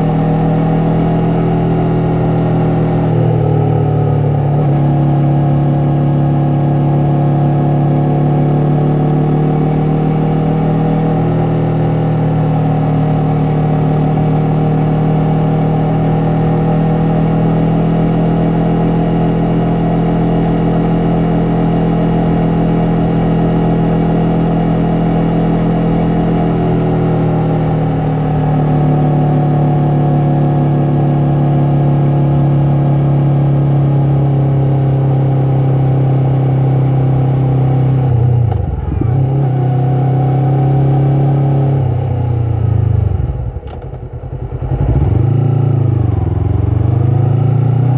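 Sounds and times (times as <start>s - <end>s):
motorcycle engine and exhaust: 0.0s - 47.9s.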